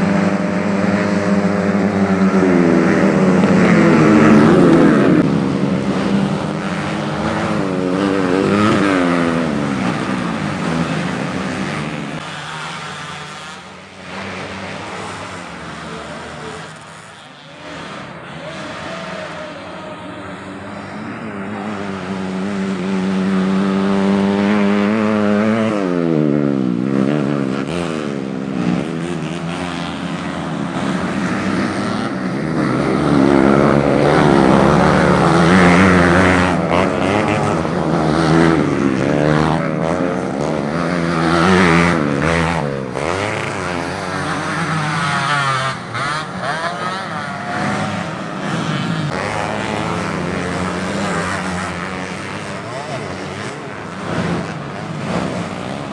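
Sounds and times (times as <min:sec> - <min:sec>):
racing motorcycles revving and passing: 0:00.0 - 0:55.9.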